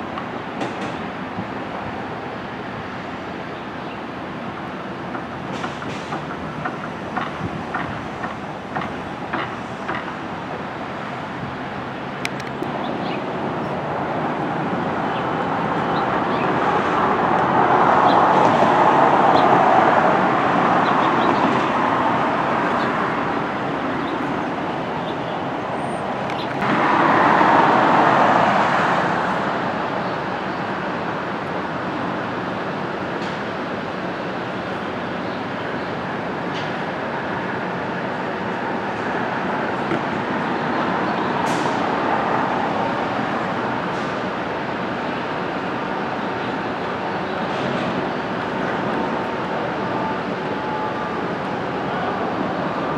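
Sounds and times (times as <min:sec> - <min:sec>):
train rumbling along track: 0:00.0 - 0:52.9.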